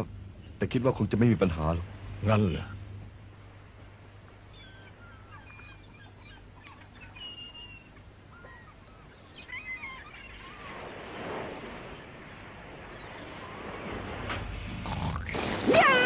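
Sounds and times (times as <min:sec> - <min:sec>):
birds chirping: 0:00.0 - 0:15.3.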